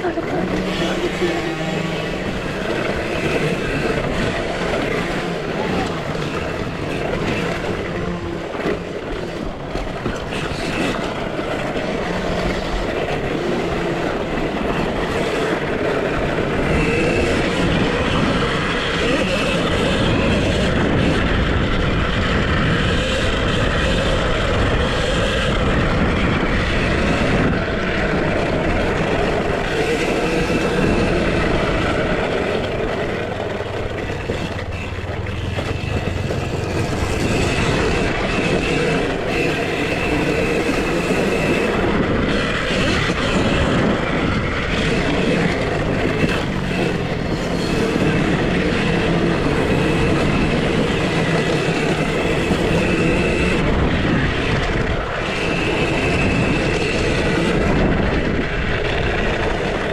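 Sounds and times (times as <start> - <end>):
electric dirt bike rumble and rattle: 0.0 - 59.9.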